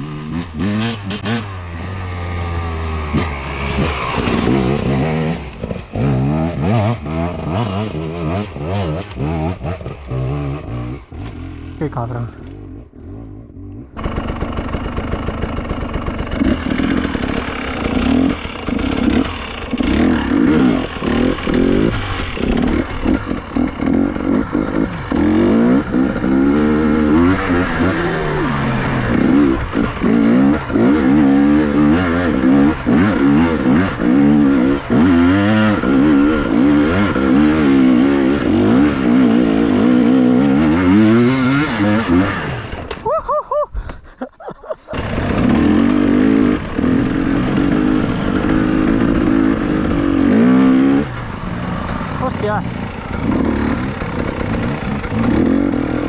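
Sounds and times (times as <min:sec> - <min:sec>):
two-stroke motorcycle engine revving: 0:00.0 - 0:43.3, 0:44.8 - 0:56.0.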